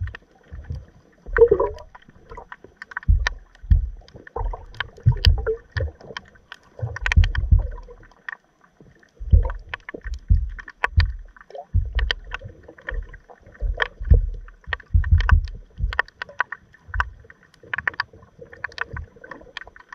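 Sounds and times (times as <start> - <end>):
clicks and crackles: 0.0 - 19.9
underwater surges and rumbles: 0.0 - 19.9.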